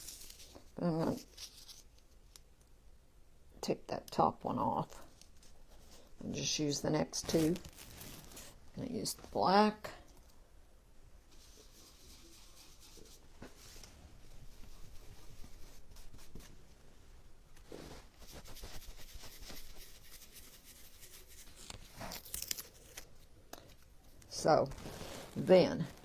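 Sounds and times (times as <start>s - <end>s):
rustling and scratching of hands: 0.0s - 2.6s, 4.8s - 10.4s, 11.2s - 26.0s.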